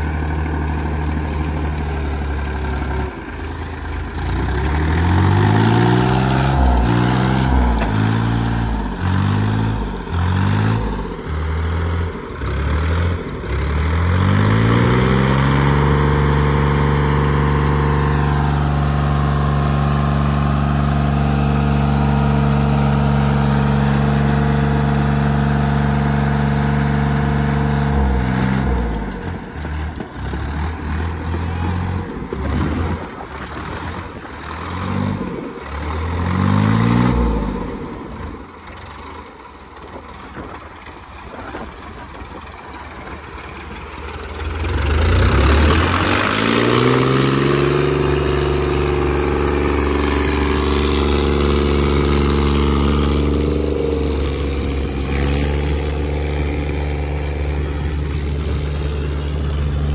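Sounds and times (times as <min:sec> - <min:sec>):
diesel tractor engine straining: 0:00.0 - 0:59.9.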